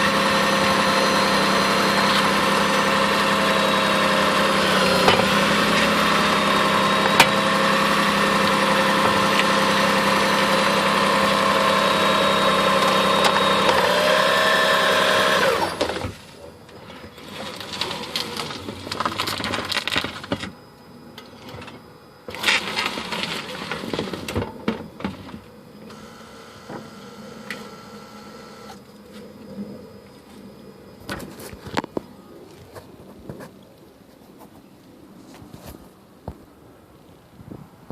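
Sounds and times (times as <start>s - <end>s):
hybrid car running with hum and whine: 0.0s - 37.9s.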